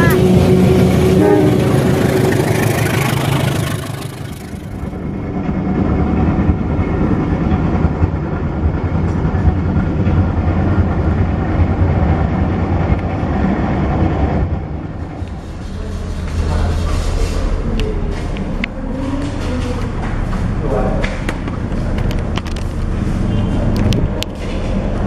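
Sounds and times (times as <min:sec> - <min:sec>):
rail noise: 0:00.0 - 0:25.0
train engine hum: 0:00.0 - 0:25.0.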